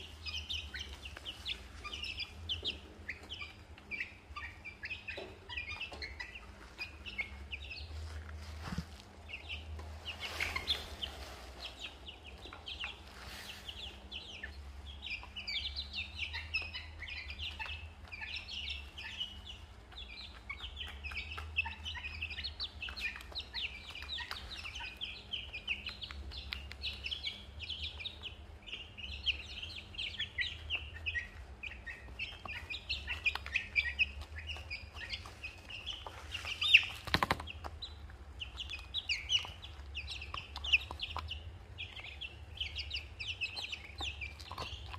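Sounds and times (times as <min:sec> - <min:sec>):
chicks and ducklings peeping: 0:00.0 - 0:44.9.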